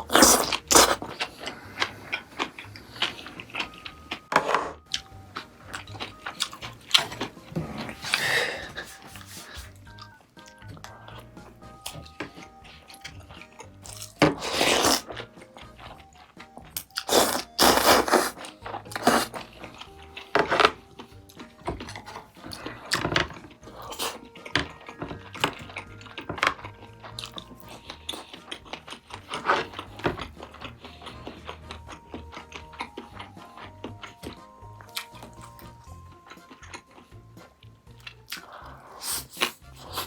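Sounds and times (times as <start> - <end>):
chewing and crunchy bites: 0.0 - 40.0
quiet background music: 0.0 - 40.0.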